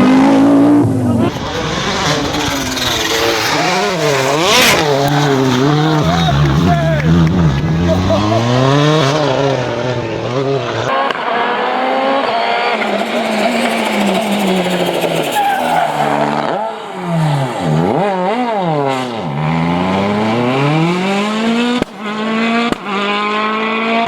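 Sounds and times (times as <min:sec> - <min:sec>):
rally car engine at full throttle: 0:00.0 - 0:24.0.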